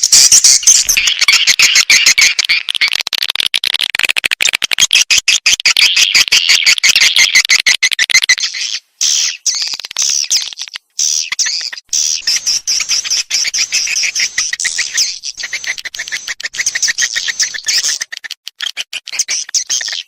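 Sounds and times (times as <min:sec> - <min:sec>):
rapid twittering bird chirps: 0:00.0 - 0:03.0, 0:04.8 - 0:20.0.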